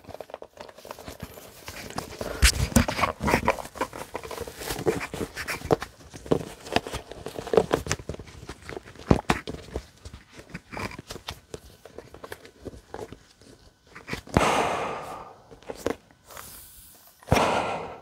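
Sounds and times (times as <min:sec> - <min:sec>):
rubber respirator rustling and rubbing: 0:00.0 - 0:18.0.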